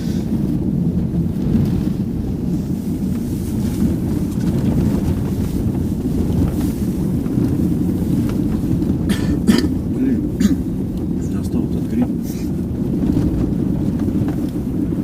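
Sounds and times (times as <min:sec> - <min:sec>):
vehicle engine rumble: 0:00.0 - 0:15.0
wind buffeting microphone: 0:00.0 - 0:15.0.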